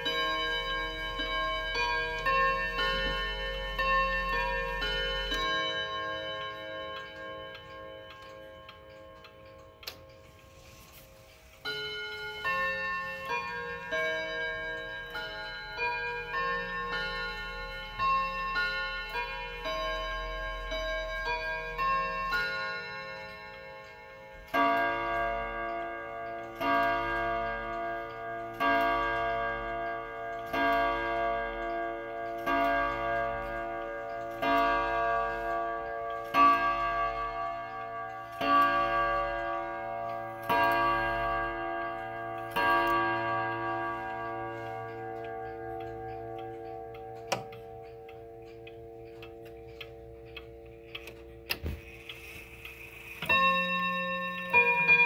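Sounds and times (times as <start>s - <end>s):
clock chime melody: 0.0s - 55.0s
clock striking the hour: 0.0s - 55.0s.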